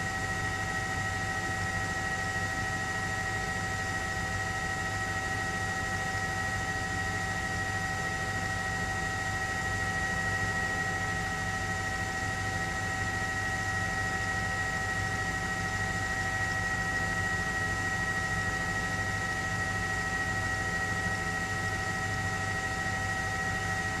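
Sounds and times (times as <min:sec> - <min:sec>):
helicopter cabin whine and hum: 0:00.0 - 0:24.0.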